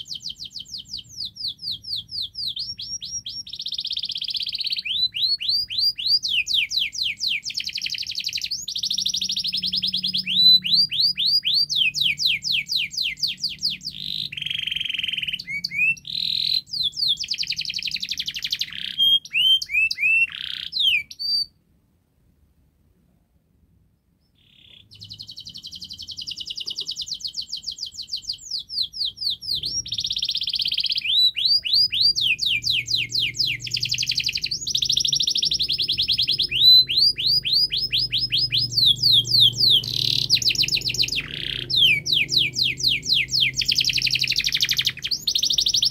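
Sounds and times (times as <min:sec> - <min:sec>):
canary singing trills: 0:00.0 - 0:21.6, 0:24.2 - 0:45.9.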